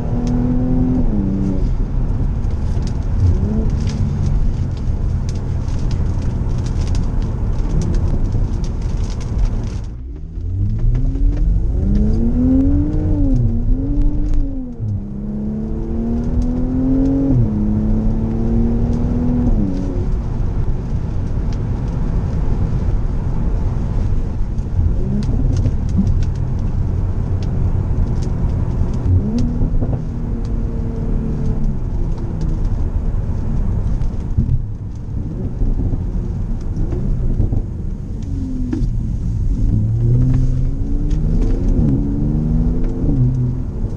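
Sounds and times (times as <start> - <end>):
car engine revving: 0.0 - 43.9
road noise: 0.0 - 43.9.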